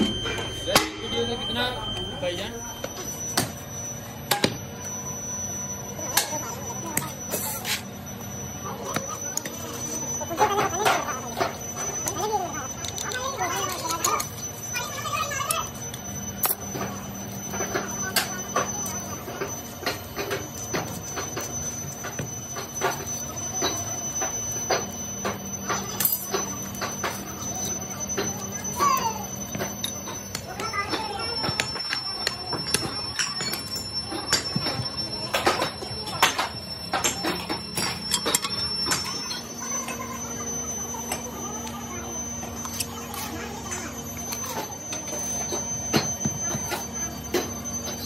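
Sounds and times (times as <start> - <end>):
workshop hum: 0.0 - 48.0.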